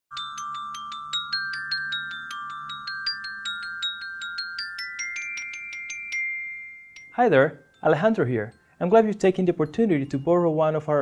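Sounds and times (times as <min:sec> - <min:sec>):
glockenspiel high ringing notes: 0:00.1 - 0:11.0.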